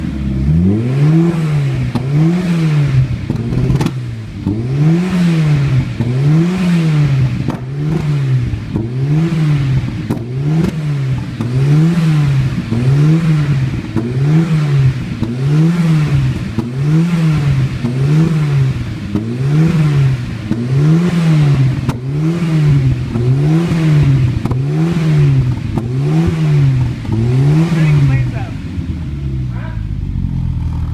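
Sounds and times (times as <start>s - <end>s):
engine revving: 0.0s - 30.9s.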